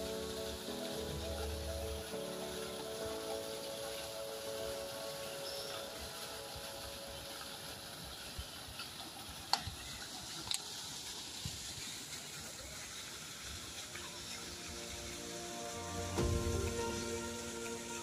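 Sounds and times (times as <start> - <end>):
outdoor ambient hiss: 0.0 - 18.0.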